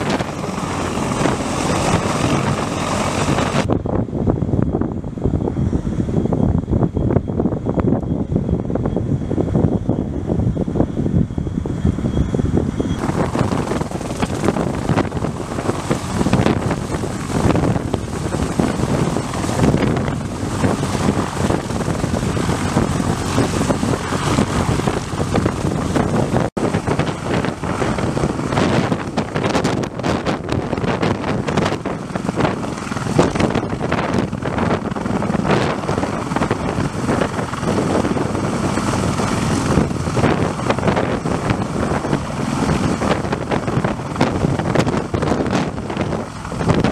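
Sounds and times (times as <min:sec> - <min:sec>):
helicopter engines and rotor: 0:00.0 - 0:46.9
rotor downwash wind noise: 0:00.0 - 0:46.9.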